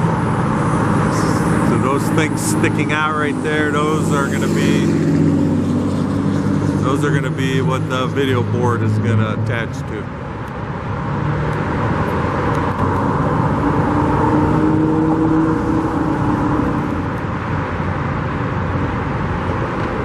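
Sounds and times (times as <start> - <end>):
vehicle passing: 0.0 - 9.9, 10.8 - 17.8
road traffic noise: 0.0 - 20.0.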